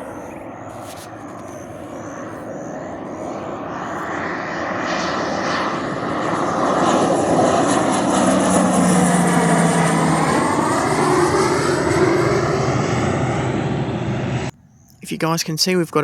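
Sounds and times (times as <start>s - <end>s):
aircraft flying: 0.0s - 14.8s
high engine whine: 0.0s - 15.1s.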